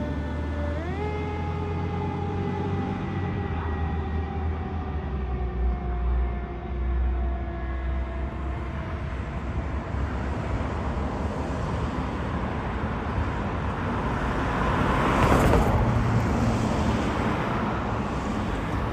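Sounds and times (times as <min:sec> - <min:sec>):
road traffic noise: 0:00.0 - 0:18.9.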